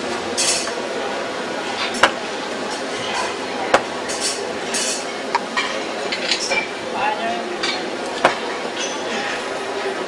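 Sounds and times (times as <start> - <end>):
background chatter: 0.0 - 10.0.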